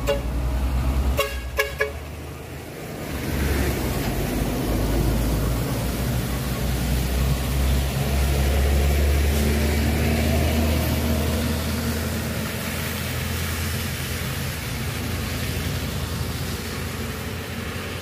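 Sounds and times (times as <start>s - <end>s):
tyres hissing on wet road: 0.0s - 18.0s.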